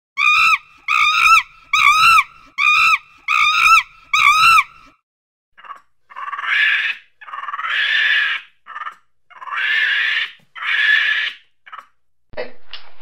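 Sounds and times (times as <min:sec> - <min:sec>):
monkey giving hoarse calls: 0:00.2 - 0:04.9, 0:05.6 - 0:12.0.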